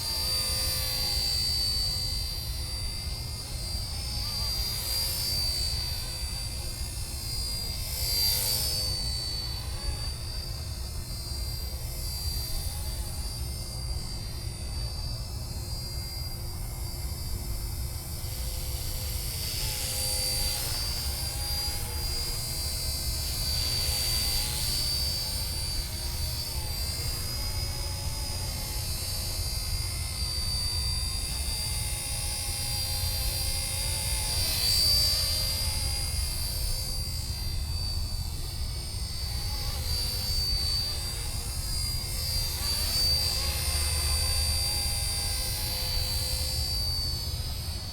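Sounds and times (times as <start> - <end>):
model helicopter motor whine: 0.0 - 47.9.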